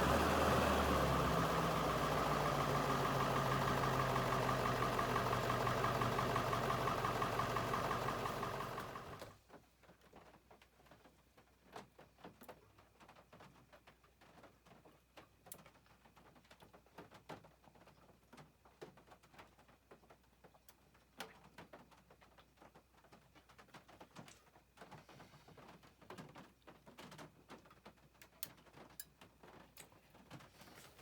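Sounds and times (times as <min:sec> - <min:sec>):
faint rain tapping on roof: 0:00.0 - 0:30.6.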